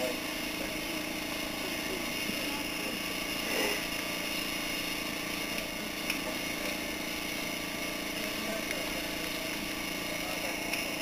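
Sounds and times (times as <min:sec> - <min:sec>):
steady hum and hiss: 0:00.0 - 0:11.0.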